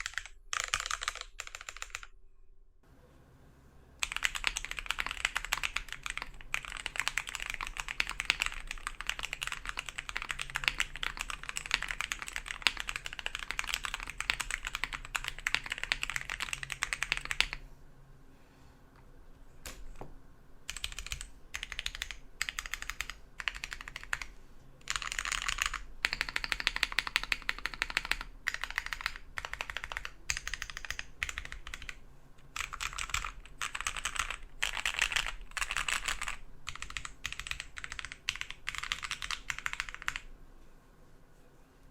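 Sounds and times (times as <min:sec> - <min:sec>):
fast mechanical keyboard typing: 0:00.0 - 0:02.1, 0:04.0 - 0:17.6, 0:20.7 - 0:40.3.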